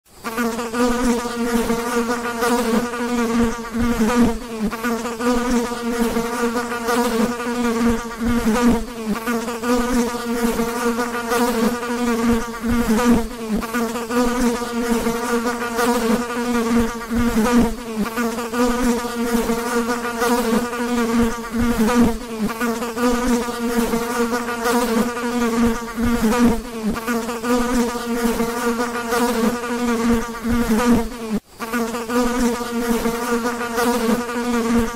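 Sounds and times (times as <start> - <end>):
flies buzzing: 0.1 - 34.9.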